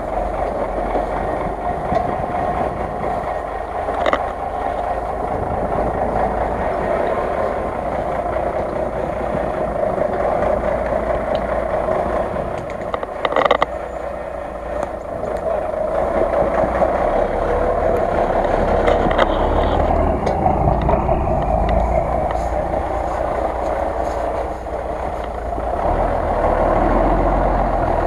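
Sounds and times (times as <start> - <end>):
loud clatter: 0.0 - 27.0
off-road vehicle engine running: 0.0 - 28.0.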